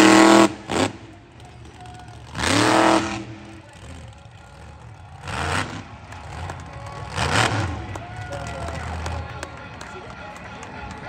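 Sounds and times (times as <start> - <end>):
monster truck engine revving: 0.0 - 9.4.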